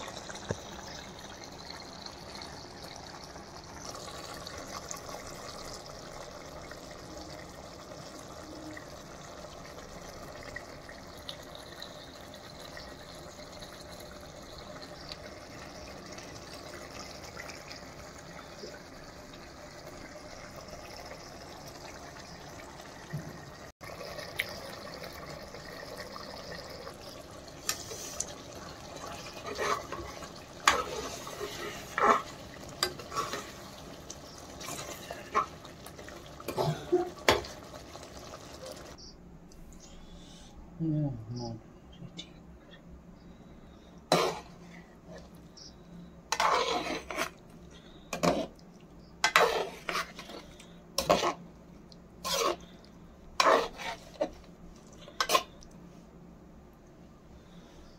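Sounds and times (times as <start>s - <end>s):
curry bubbling in a pot: 0.0s - 39.0s, 46.3s - 55.9s.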